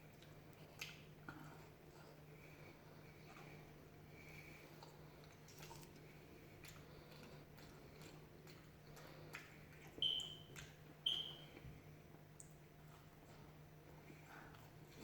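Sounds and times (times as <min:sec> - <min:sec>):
chewing crunchy fried food: 0:00.0 - 0:15.0.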